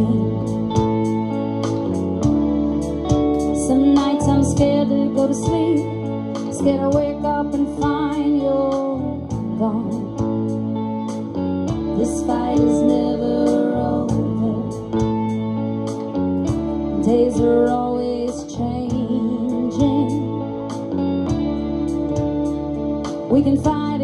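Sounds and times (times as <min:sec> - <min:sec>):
bass guitar: 0:00.0 - 0:24.0
electric guitar: 0:00.0 - 0:24.0.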